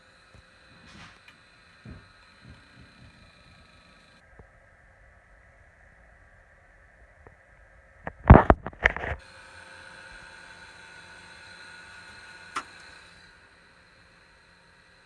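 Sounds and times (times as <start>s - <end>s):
computer whirring hum: 0.0s - 15.0s
faint high whine: 0.0s - 15.0s.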